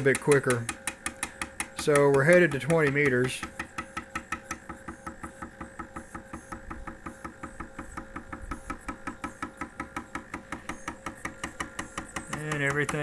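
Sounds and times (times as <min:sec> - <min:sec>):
stepper motor clicks: 0:00.0 - 0:13.0.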